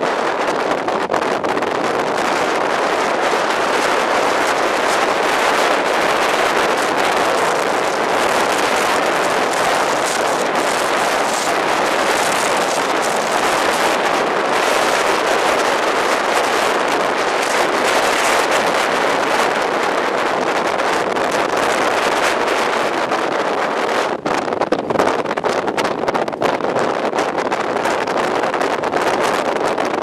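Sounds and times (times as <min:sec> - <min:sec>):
strong wind on microphone: 0:00.0 - 0:30.0.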